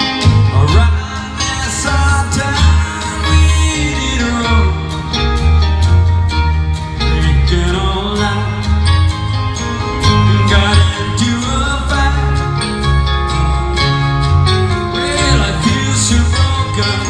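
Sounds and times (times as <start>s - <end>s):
bass line: 0.0s - 17.0s
sustained pitched instruments: 0.0s - 17.0s.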